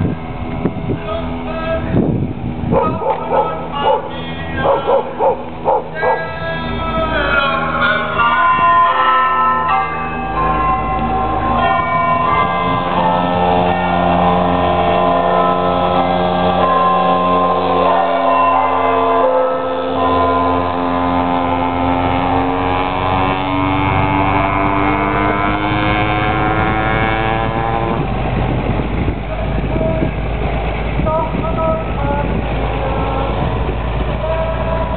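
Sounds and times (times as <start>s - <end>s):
small two-stroke engine whining: 0.0s - 34.9s
truck engine rumble: 0.0s - 34.9s.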